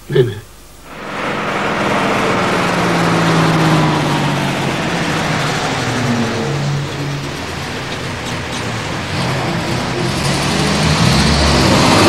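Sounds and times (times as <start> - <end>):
cars passing: 0.9 - 12.0
truck driving past: 0.9 - 12.0.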